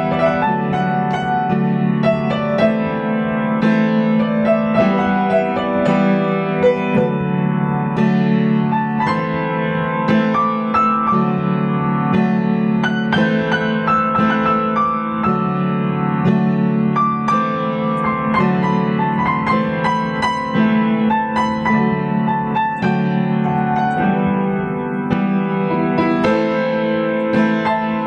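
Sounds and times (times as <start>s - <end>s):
piano chords and melody: 0.0s - 28.0s.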